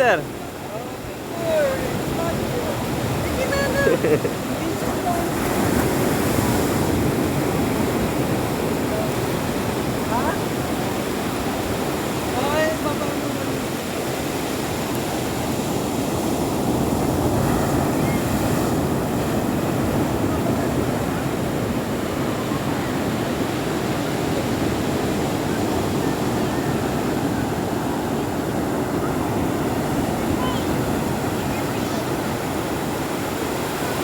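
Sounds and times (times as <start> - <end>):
ocean waves washing onto beach: 0.0 - 34.0.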